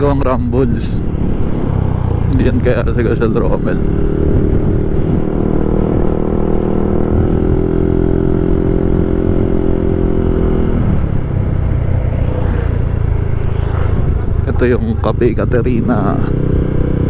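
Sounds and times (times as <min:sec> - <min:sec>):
low wind rumble: 0:00.0 - 0:17.0.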